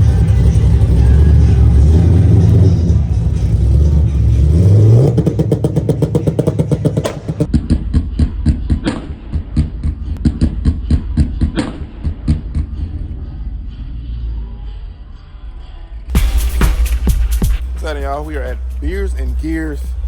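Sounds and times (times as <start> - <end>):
sports car engine revving: 0.0 - 15.0, 16.2 - 20.0.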